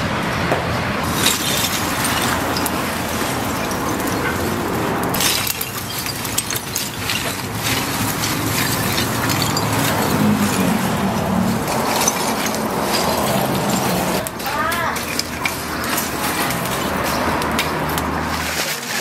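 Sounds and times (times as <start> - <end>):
charcoal clattering into metal grill: 1.0 - 19.0
plastic bag crinkling: 1.0 - 19.0.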